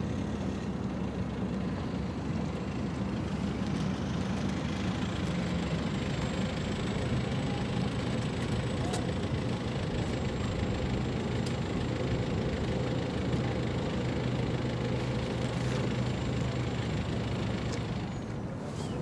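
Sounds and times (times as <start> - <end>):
ship engine drone: 0.0 - 19.0.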